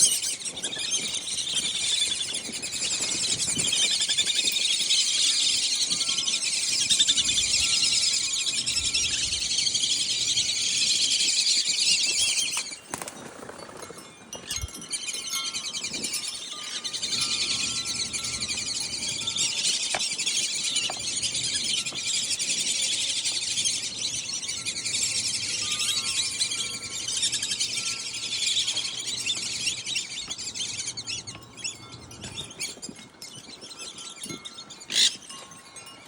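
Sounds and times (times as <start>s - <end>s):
small birds chirping and twittering: 0.0s - 36.0s.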